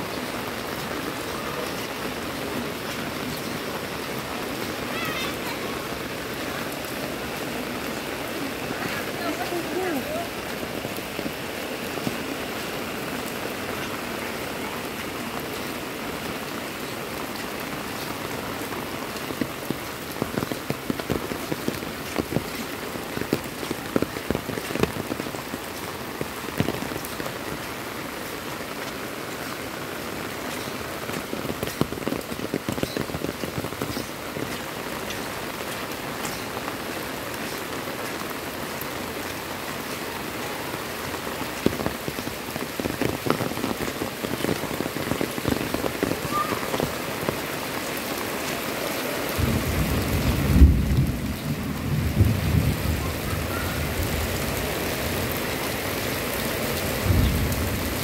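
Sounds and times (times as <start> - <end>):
close loud rain taps: 0.0 - 58.0
heavy rain on pavement: 0.0 - 58.0.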